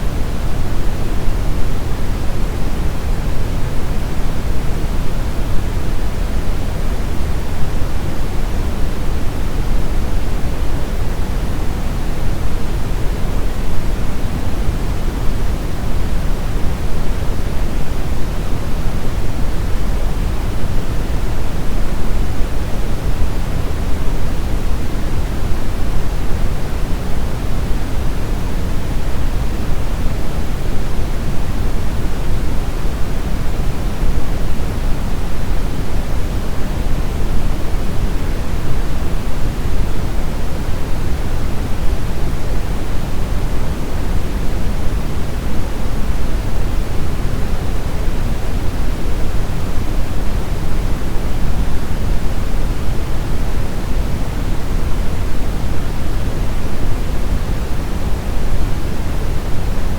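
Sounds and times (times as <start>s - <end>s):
low rumbling brown noise: 0.0s - 59.9s.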